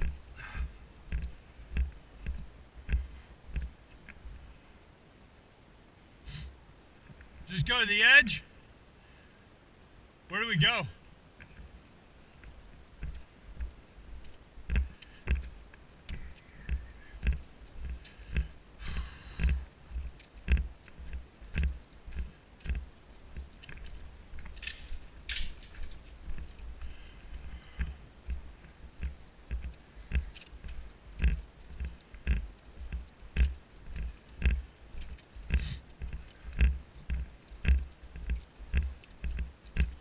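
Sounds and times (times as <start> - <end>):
footsteps: 0.0 - 4.5, 11.4 - 40.0.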